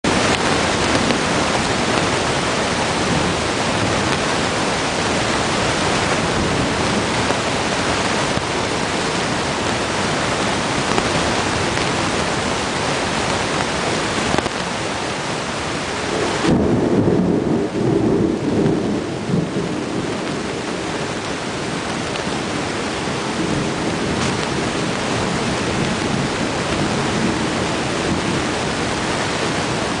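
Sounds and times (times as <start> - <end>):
heavy rain on pavement: 0.0 - 30.0
thunder rumbling: 0.1 - 14.8, 15.6 - 30.0.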